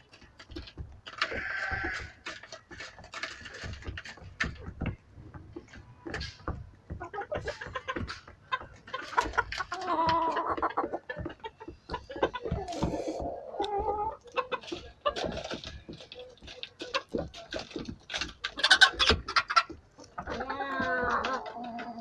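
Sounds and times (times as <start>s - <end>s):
chickens clucking and calling: 0.0s - 22.0s.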